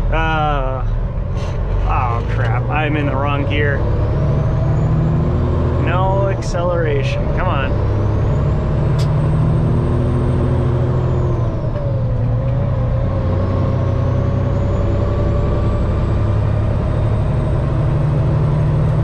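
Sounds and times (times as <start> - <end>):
diesel truck engine lugging: 0.0 - 19.0.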